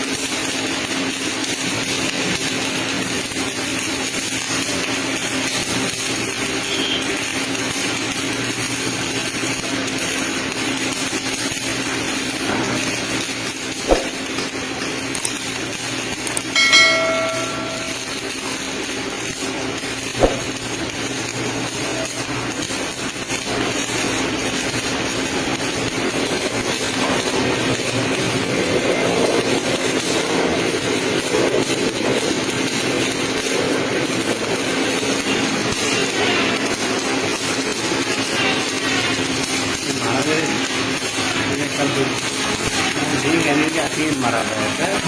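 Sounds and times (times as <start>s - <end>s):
welding arc crackling hiss: 0.0s - 45.0s.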